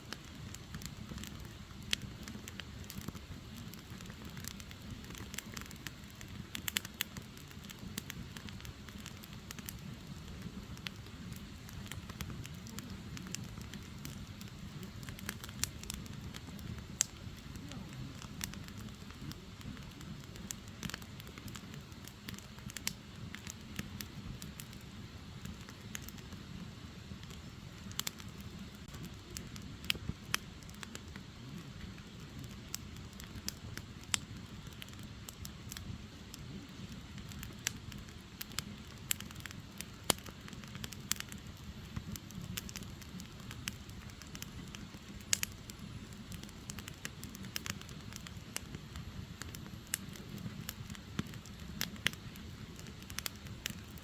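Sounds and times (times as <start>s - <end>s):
firewood crackling: 0.0s - 54.0s.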